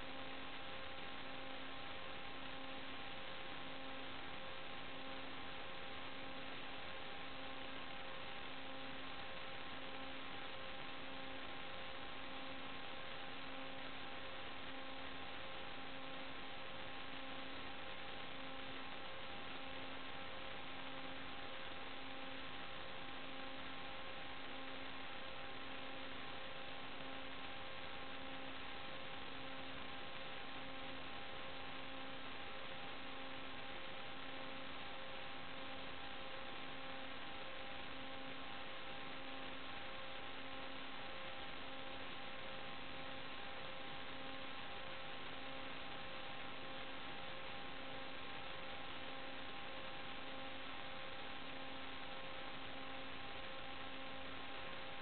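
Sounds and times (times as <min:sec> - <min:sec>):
electronic hiss and hum: 0:00.0 - 0:55.0.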